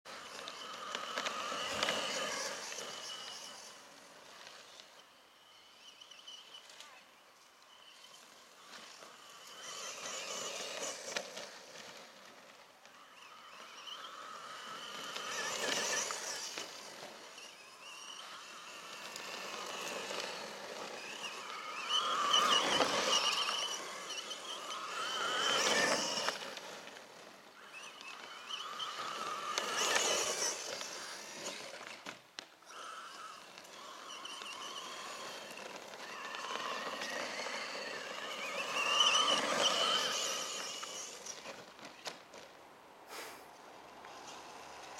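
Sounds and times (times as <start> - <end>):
electric motor whining: 0.1 - 4.9, 5.8 - 41.6
tyres running over grass: 0.1 - 5.2, 6.0 - 42.7.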